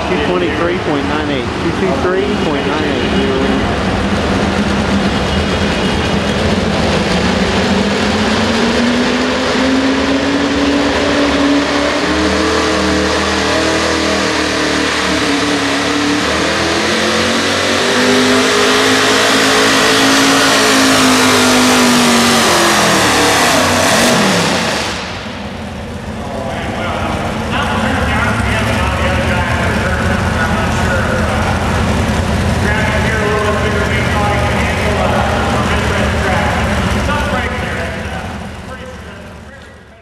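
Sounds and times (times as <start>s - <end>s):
truck engine at high revs: 0.0s - 40.0s.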